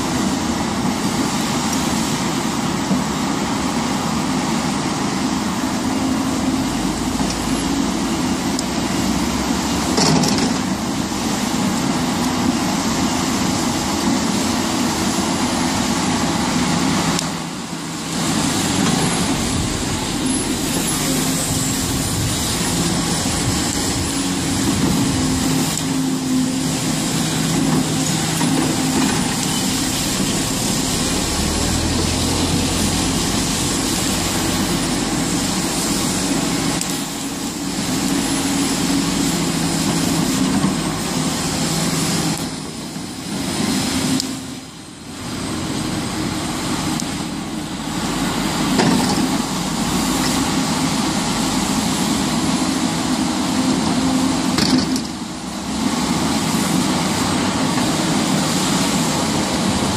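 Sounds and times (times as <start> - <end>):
excavator diesel engine working: 0.0 - 59.9.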